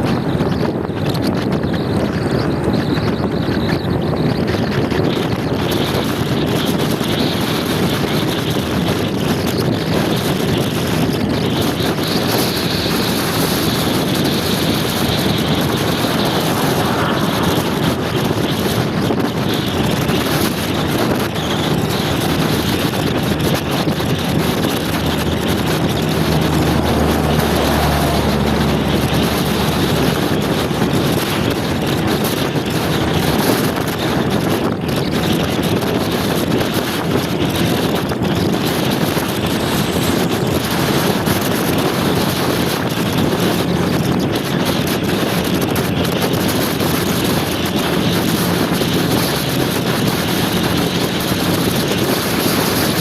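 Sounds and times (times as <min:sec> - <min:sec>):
road noise: 0:00.0 - 0:53.0
scooter engine hum: 0:00.0 - 0:53.0
wind rushing over microphone: 0:00.0 - 0:53.0.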